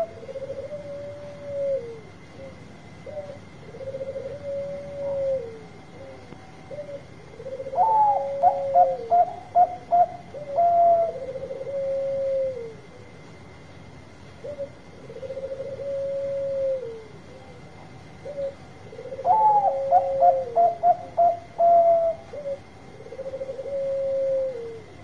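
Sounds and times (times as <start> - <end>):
dove cooing: 0.0 - 13.5, 14.3 - 25.0.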